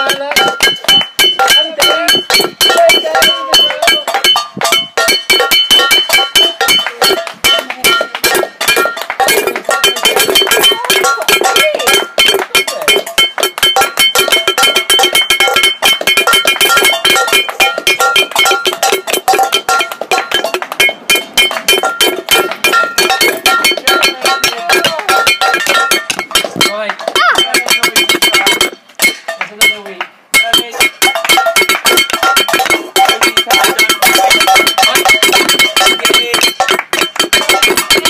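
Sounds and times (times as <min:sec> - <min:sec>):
wooden spoon beating metal pan: 0:00.0 - 0:38.0.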